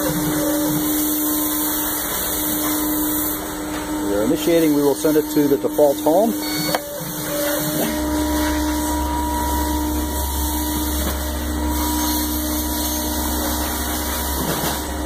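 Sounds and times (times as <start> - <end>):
router motors humming with whine: 0.0 - 15.0.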